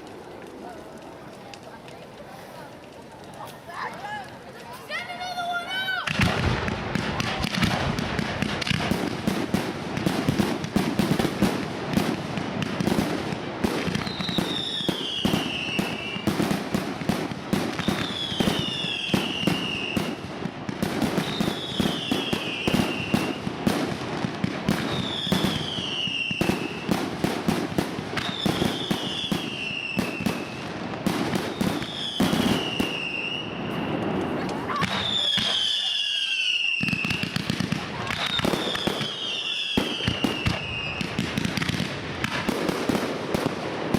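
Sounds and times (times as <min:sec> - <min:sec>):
fireworks bursts and crackling bangs: 0:00.0 - 0:43.9.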